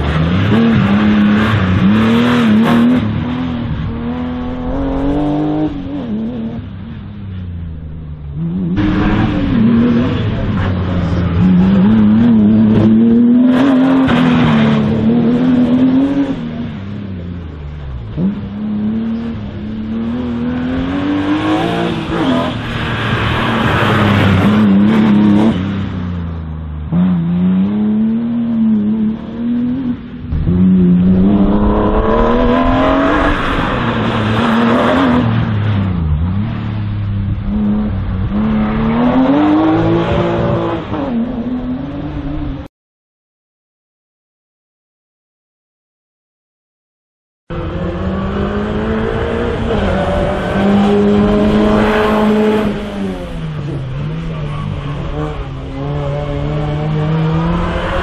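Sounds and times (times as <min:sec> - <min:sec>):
race car engine revving: 0:00.0 - 0:42.7, 0:47.5 - 0:58.0.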